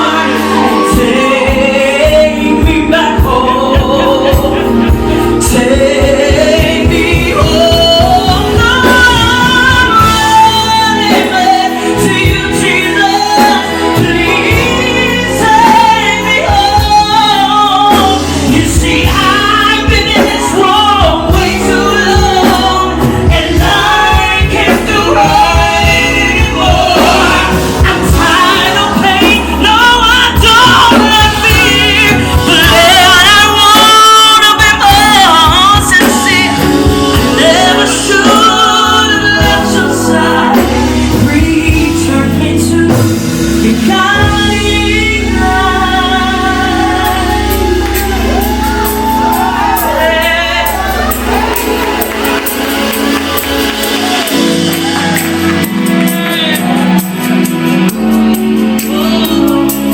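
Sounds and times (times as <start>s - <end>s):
gospel group singing: 0.0s - 59.9s
instrumental backing with beat: 0.0s - 59.9s.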